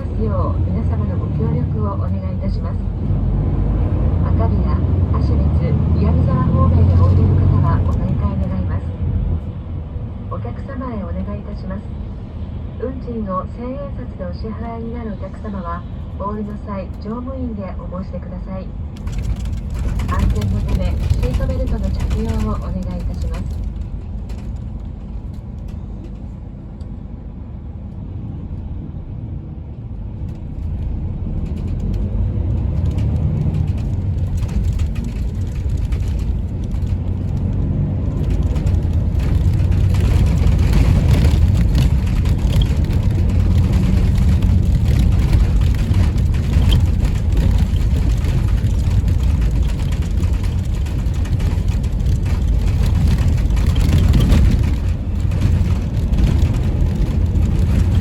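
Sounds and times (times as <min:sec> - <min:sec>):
bus cabin rattling: 0:00.0 - 0:58.0
bus engine and road rumble: 0:00.0 - 0:58.0.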